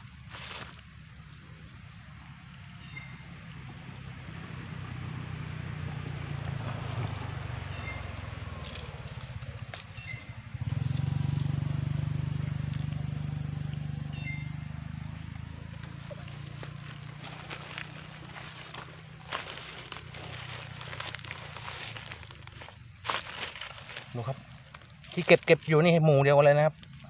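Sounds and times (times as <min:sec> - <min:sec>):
vehicle engine droning: 0:00.0 - 0:27.0.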